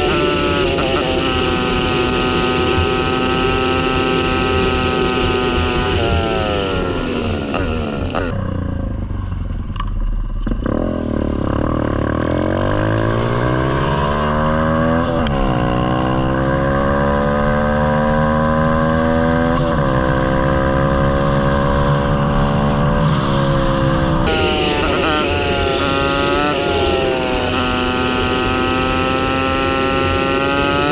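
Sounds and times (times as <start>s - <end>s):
motorbike engine accelerating: 0.0s - 30.9s.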